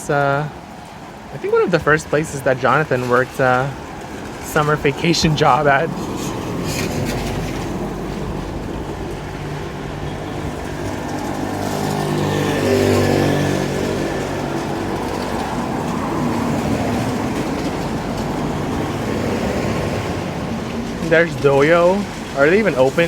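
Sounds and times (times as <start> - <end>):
steady engine hum: 0.0 - 23.0
car driving past: 4.0 - 23.0.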